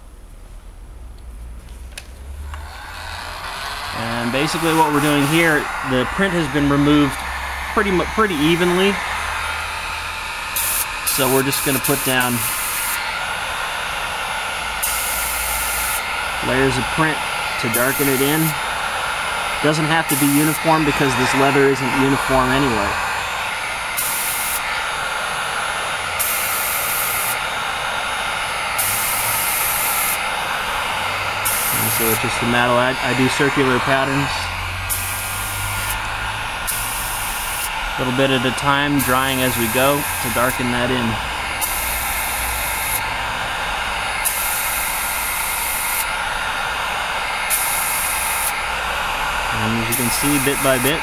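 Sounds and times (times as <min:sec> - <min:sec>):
hair dryer blowing: 0:01.8 - 0:51.0
airbrush spraying: 0:02.5 - 0:51.0.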